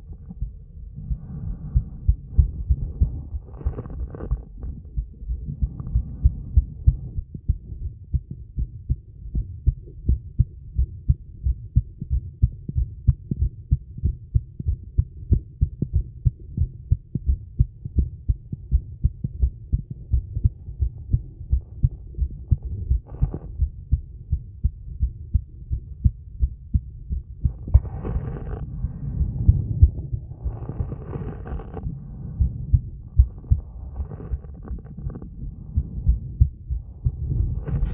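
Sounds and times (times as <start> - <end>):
amplified heartbeat: 0.0 - 37.9.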